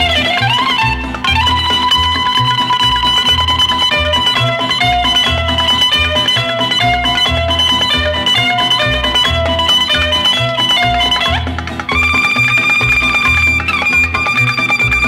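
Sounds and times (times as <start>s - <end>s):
bouzouki plucked notes: 0.0s - 15.0s
steady bass line: 0.0s - 15.0s.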